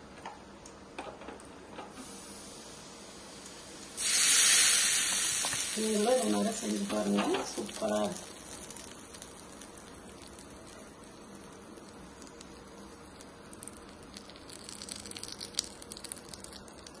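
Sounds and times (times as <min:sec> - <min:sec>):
hot oil crackling sizzle: 0:01.8 - 0:17.0.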